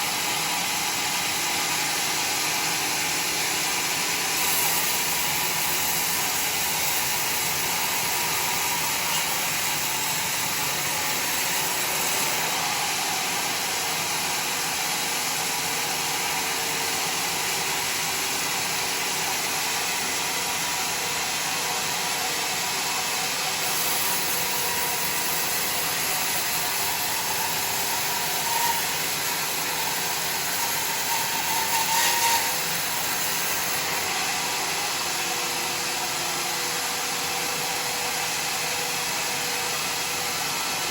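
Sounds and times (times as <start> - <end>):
sawmill running: 0.0 - 40.9.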